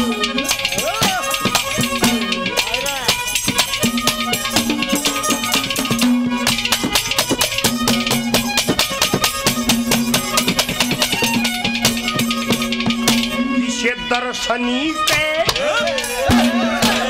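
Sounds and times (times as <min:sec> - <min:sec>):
dholak drums beating fast rhythm: 0:00.0 - 0:13.7, 0:15.0 - 0:17.0.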